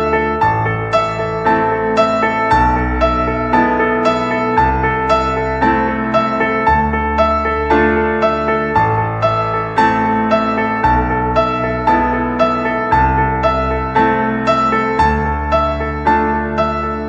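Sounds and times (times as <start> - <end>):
keyboard notes over low chords: 0.0 - 17.0.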